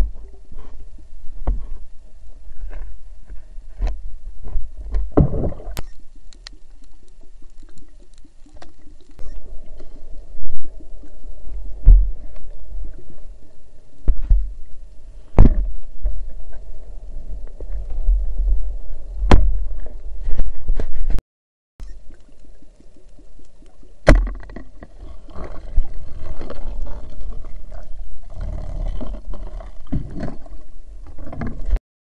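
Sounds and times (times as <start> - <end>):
muffled underwater water rumble: 0.0 - 21.2, 21.8 - 31.8.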